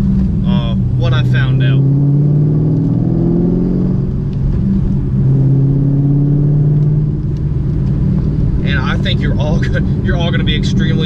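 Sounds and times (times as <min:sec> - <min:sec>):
car engine accelerating: 0:00.0 - 0:11.0
road rumble: 0:00.0 - 0:11.0.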